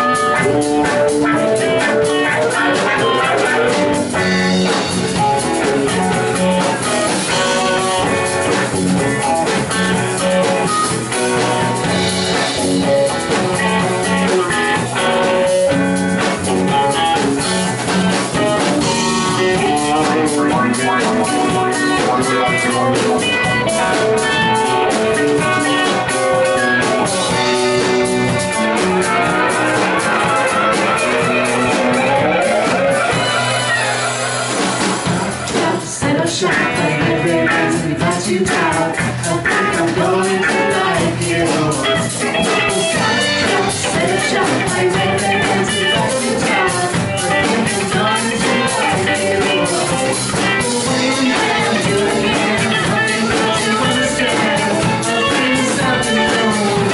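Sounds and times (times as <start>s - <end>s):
drum kit: 0.0s - 56.9s
electric bass: 0.0s - 56.9s
electric guitars: 0.0s - 56.9s
person singing: 0.0s - 56.9s.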